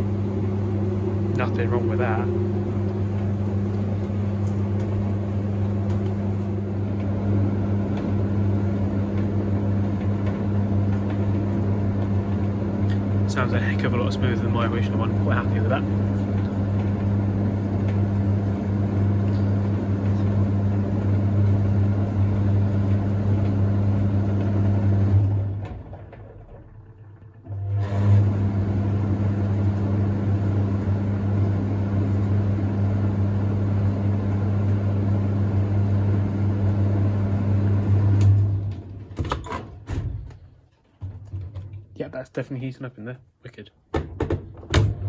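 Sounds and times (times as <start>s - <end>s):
tumble dryer running: 0.0s - 39.2s.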